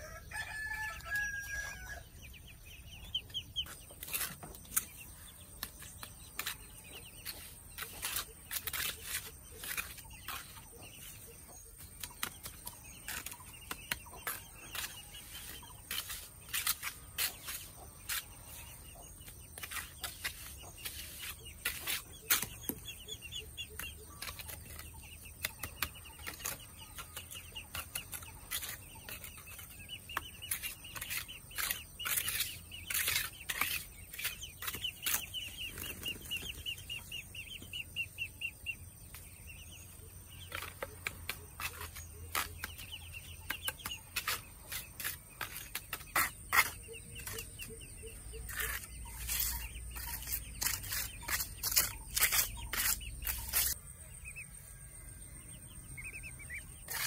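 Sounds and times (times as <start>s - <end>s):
chickens clucking: 0.0s - 54.5s, 55.7s - 57.0s.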